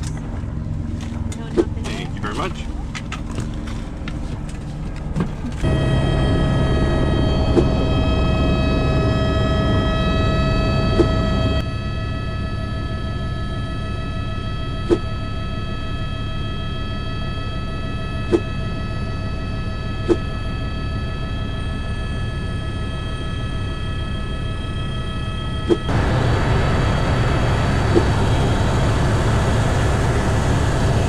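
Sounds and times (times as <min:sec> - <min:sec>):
vehicle interior rumble and whine: 0:00.0 - 0:31.0.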